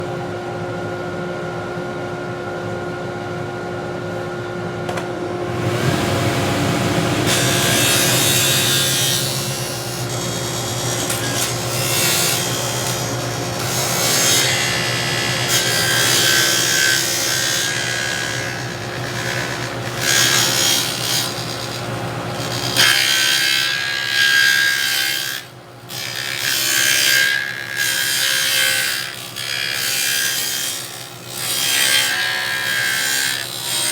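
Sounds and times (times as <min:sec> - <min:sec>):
table saw motor hum: 0:05.2 - 0:33.9
saw blade cutting wood: 0:05.5 - 0:33.9.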